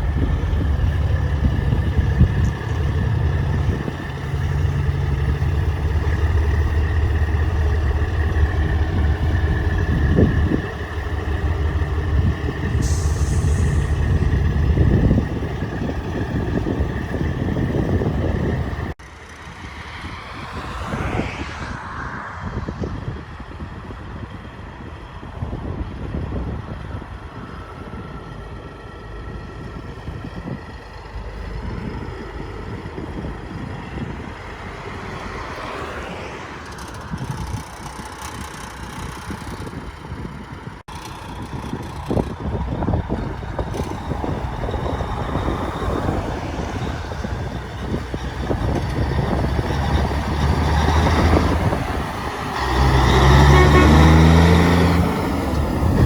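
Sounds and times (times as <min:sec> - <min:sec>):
wind noise on microphone: 0:00.0 - 0:19.0, 0:19.6 - 0:56.0
truck diesel engines rumbling: 0:00.0 - 0:56.0.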